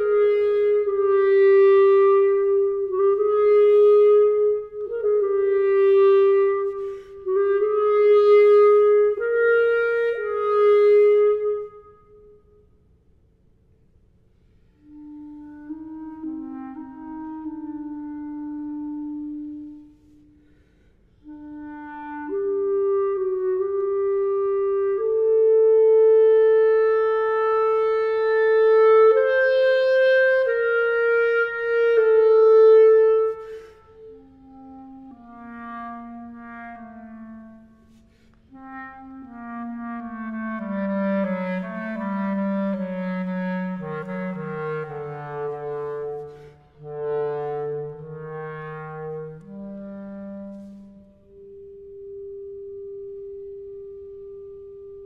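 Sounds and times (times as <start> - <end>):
clarinet playing long notes: 0.0 - 12.7, 14.7 - 55.0.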